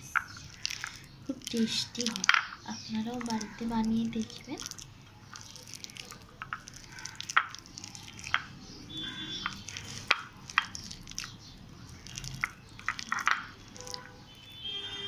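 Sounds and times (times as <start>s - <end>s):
sharp clicks and smacks: 0.0s - 14.1s
hand squelching sticky pulp: 0.0s - 15.0s.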